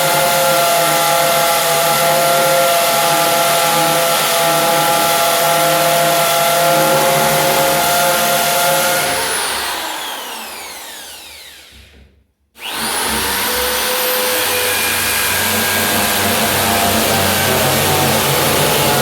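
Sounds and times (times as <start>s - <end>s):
electric drill motor: 0.0s - 12.0s, 12.6s - 19.0s.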